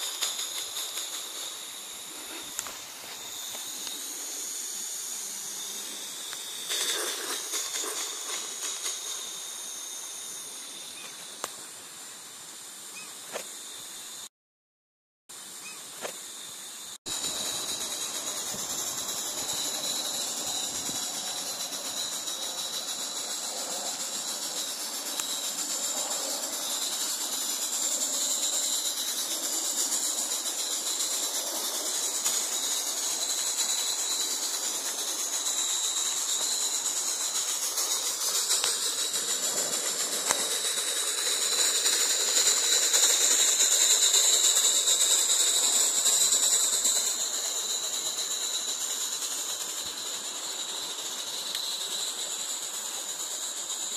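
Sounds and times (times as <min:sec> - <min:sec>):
steam hissing: 0:00.0 - 0:14.3, 0:15.3 - 0:53.9
steam locomotive running: 0:00.0 - 0:14.3, 0:15.4 - 0:53.9.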